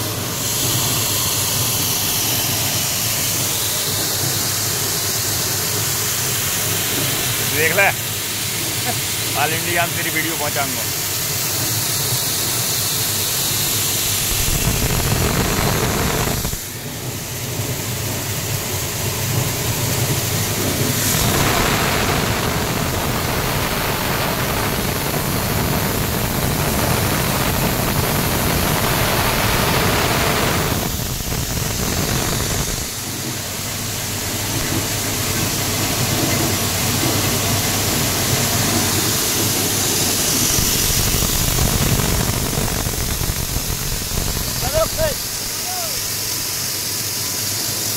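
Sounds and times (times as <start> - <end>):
grain cleaning machine running: 0.0 - 47.9.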